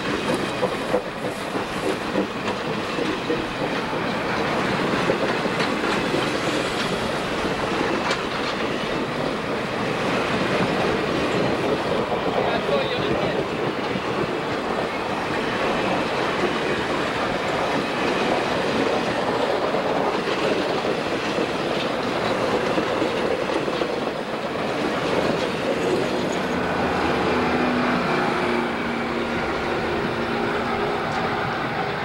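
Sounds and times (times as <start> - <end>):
train wheels clattering: 0.0 - 32.0.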